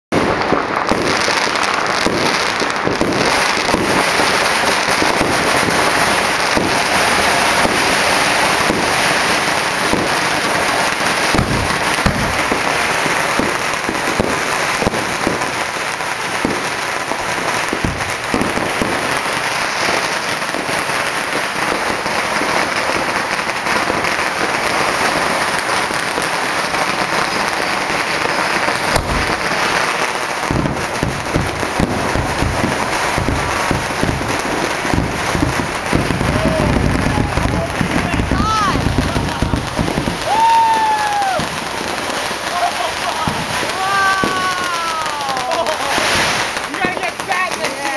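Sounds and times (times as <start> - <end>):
firecrackers crackling: 0.1 - 47.9
loud firework bangs: 0.1 - 47.9.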